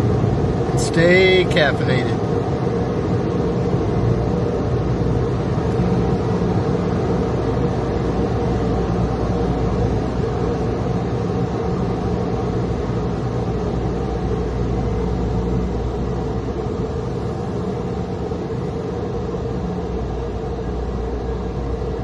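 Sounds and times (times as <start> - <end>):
car interior rumble and rushing: 0.0 - 22.0
constant hum: 0.0 - 22.0.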